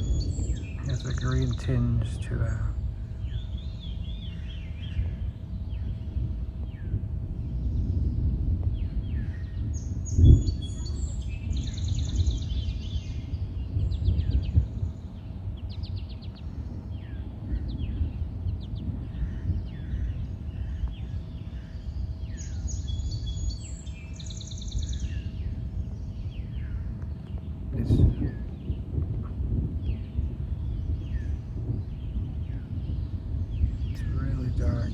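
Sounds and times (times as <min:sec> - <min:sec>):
constant low rumble: 0:00.0 - 0:34.9
songbird singing: 0:00.0 - 0:34.9.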